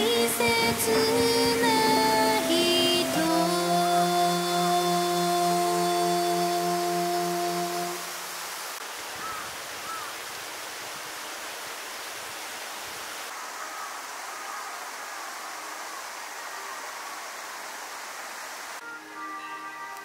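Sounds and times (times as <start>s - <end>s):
steady rushing hiss: 0.0s - 20.0s.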